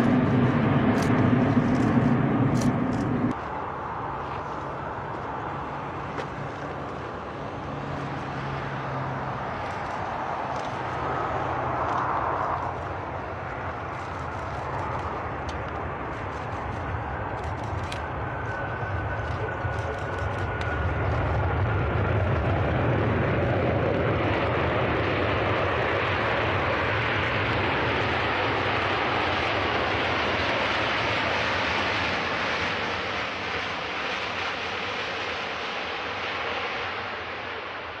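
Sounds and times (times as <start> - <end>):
jet engines rushing: 0.0 - 38.0.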